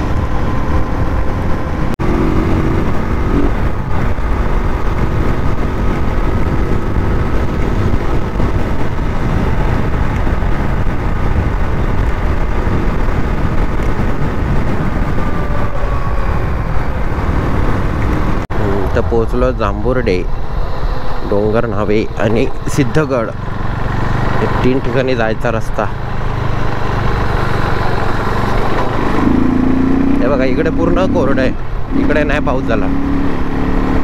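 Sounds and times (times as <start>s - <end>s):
motorcycle engine cruising: 0.0s - 34.0s
wind rushing over microphone: 0.0s - 34.0s.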